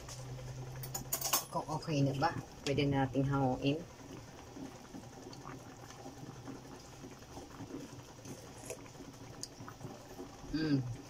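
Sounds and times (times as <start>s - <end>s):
pot of broth simmering: 0.0s - 11.0s.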